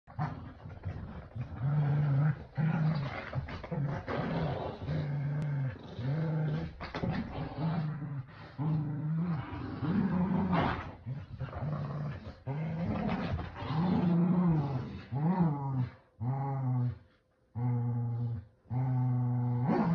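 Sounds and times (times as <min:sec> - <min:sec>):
dogs play-growling: 0:00.1 - 0:19.9.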